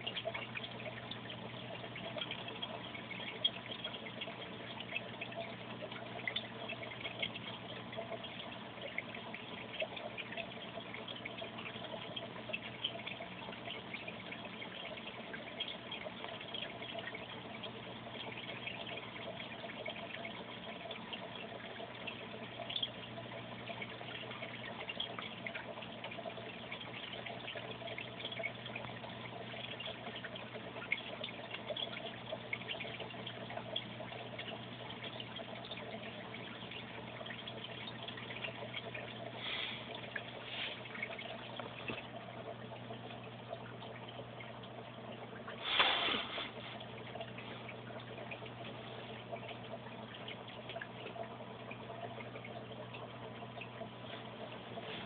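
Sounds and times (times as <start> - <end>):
low steady hum: 0.0 - 55.0
water trickling: 0.0 - 55.0.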